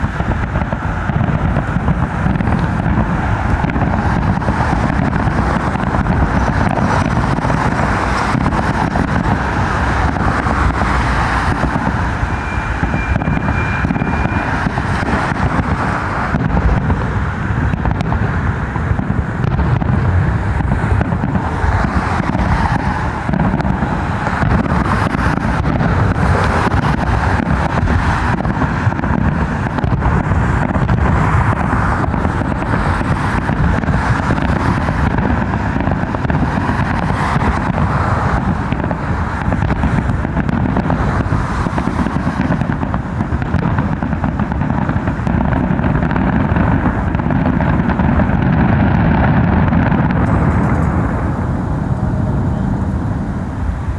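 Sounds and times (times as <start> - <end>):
road traffic noise: 0.0 - 53.9.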